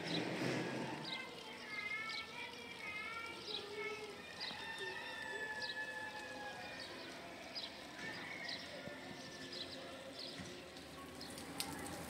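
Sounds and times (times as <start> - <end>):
small birds chirping: 0.0 - 5.8, 6.7 - 12.0
faint outdoor ambience: 0.0 - 12.0.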